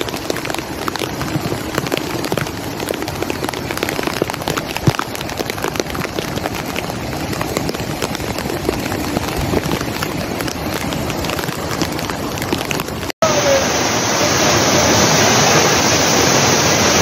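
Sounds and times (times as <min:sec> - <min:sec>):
heavy rain pouring: 0:00.0 - 0:17.0
rushing flood torrent: 0:00.0 - 0:17.0.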